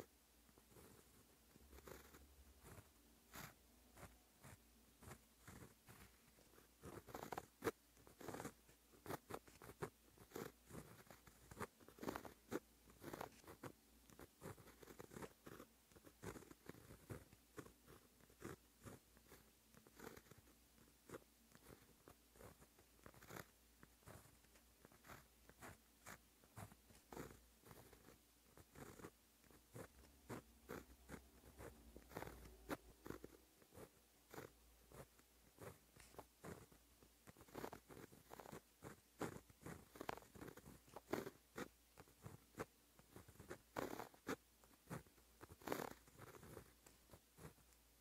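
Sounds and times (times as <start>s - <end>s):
pen scratching on paper: 0.0s - 48.0s.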